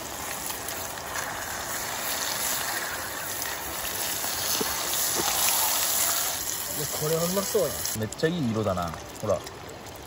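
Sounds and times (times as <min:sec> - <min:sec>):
crabs deep-frying in hot oil: 0:00.0 - 0:10.0.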